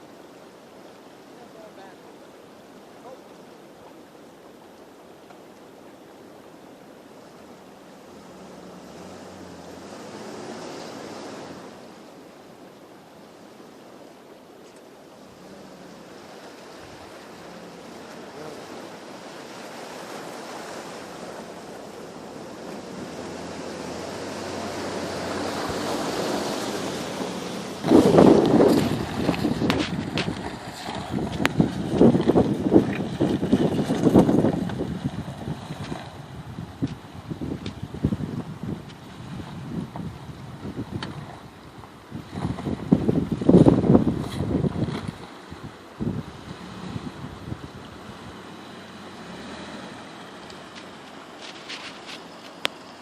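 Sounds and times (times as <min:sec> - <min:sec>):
rushing river floodwater: 0:00.0 - 0:53.0.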